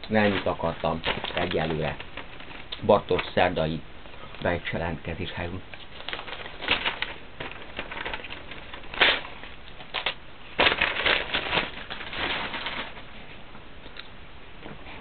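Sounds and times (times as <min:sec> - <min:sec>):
newspaper crumpling and rustling: 0:00.0 - 0:03.6, 0:04.4 - 0:13.2.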